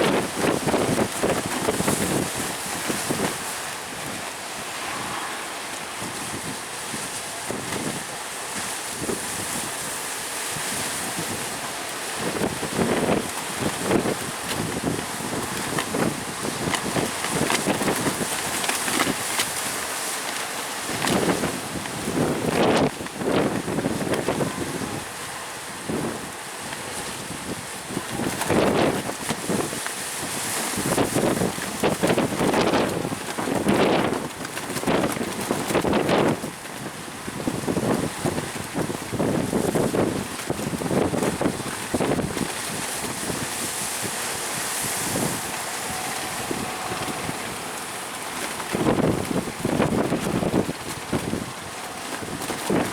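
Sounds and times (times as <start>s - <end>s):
sea surf breaking: 0.0s - 52.9s
wind buffeting microphone: 0.0s - 52.9s.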